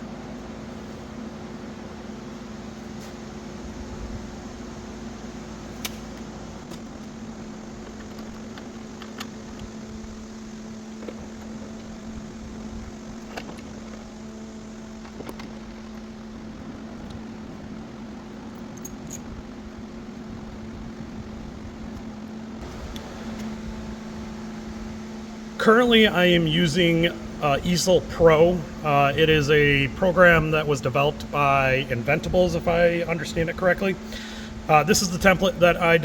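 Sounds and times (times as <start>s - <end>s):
shop machinery hum: 0.0s - 36.0s.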